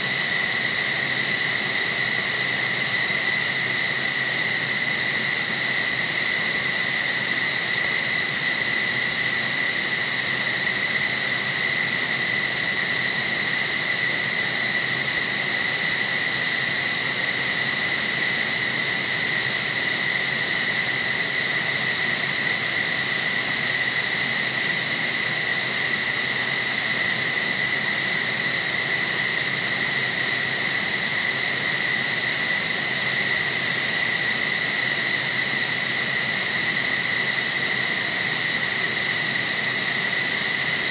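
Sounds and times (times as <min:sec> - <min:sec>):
high turbine whine: 0:00.0 - 0:40.9.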